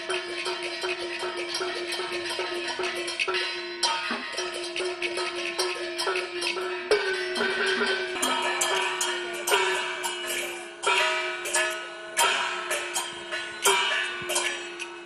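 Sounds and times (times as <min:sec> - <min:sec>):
drum and gong percussion band: 0:00.0 - 0:15.0.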